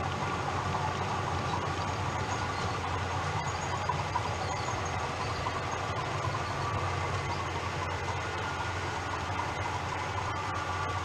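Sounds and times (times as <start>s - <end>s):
model train rolling with hum: 0.0s - 11.0s.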